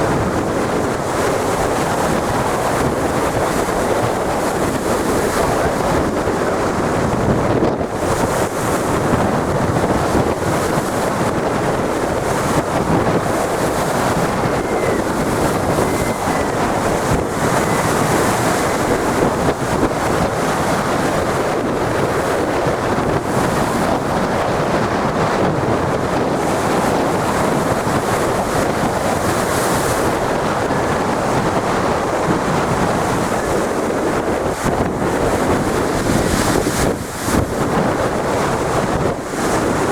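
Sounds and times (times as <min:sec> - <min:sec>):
sea waves breaking: 0:00.0 - 0:39.9
wind blowing across microphone: 0:00.0 - 0:39.9.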